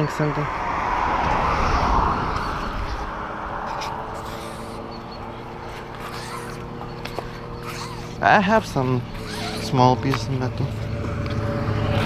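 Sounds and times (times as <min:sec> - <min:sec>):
low engine hum: 0:00.0 - 0:12.0
vehicle passing by: 0:00.0 - 0:12.0.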